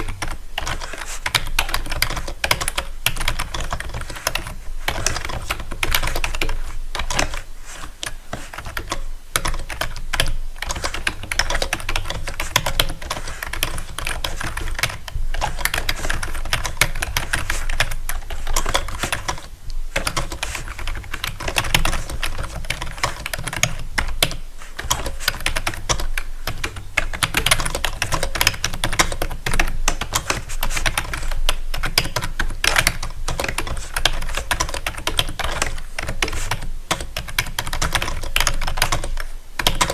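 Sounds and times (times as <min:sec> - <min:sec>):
fast typing on a keyboard: 0:00.0 - 0:39.9.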